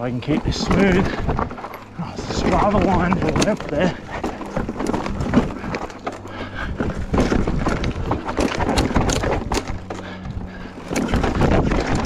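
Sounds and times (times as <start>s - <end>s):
bike knocking and rattling on rocks: 0.0s - 12.0s
low steady hum: 0.0s - 12.0s.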